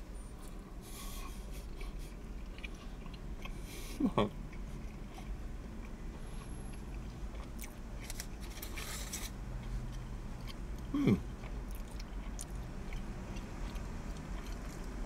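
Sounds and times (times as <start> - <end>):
person chewing food: 0.3 - 15.0.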